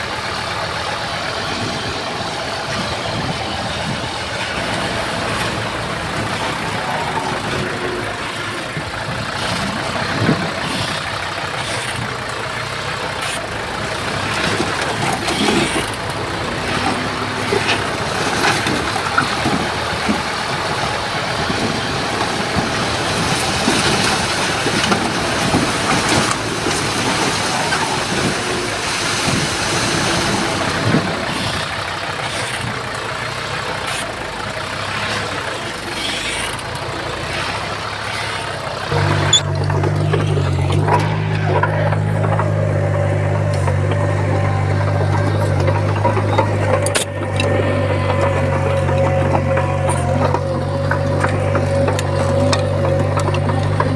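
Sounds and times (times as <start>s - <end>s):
diesel earthmoving machinery running: 0.0s - 53.9s.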